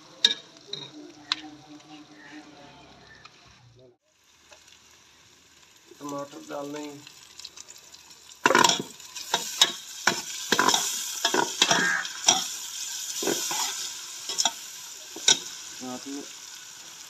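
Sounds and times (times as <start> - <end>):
tomatoes and onions sizzling: 0.0 - 17.0.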